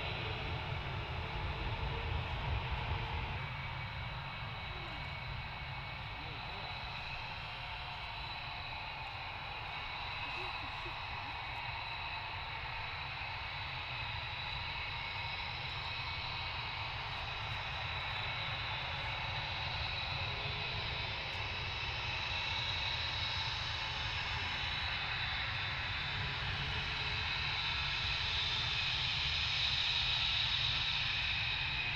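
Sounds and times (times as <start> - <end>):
jet engines running: 0.0 - 31.9.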